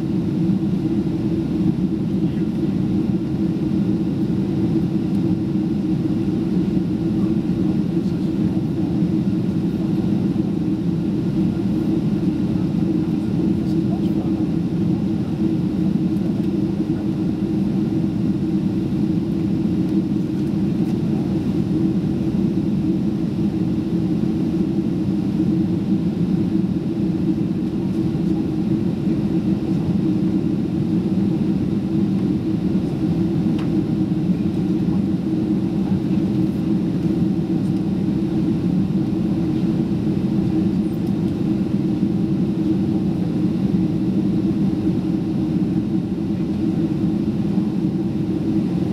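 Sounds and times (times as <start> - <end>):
airplane cabin drone: 0.0 - 48.9.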